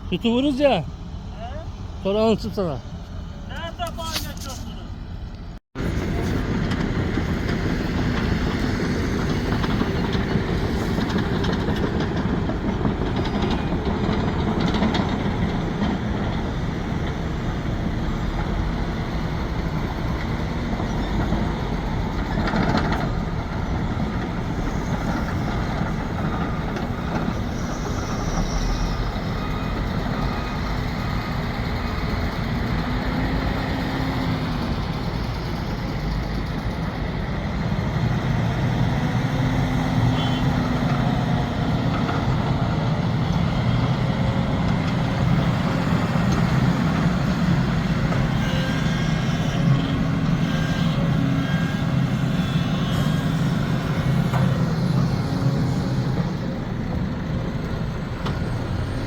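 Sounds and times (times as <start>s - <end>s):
excavator diesel engine running: 5.2s - 59.0s.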